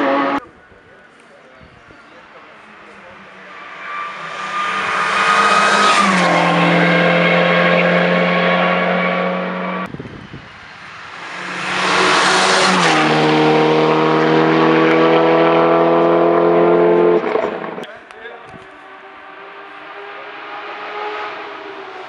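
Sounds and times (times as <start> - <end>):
race cars passing at full throttle: 0.0 - 0.4, 2.3 - 22.0.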